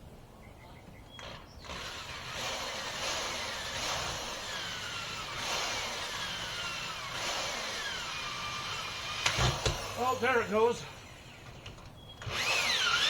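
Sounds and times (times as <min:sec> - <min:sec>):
power tool running under load: 0:01.2 - 0:13.0.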